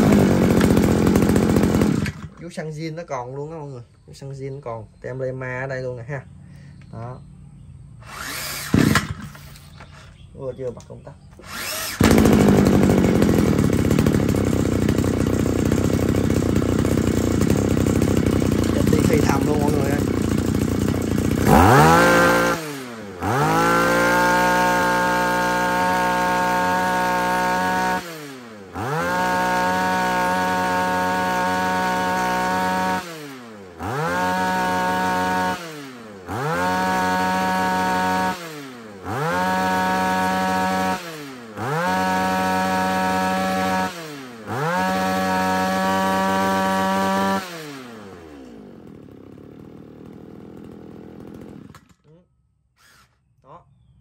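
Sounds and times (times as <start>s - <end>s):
brush cutter engine revving: 0.0s - 4.0s, 8.0s - 53.2s
brush cutter engine idling: 0.0s - 7.4s, 8.0s - 53.1s.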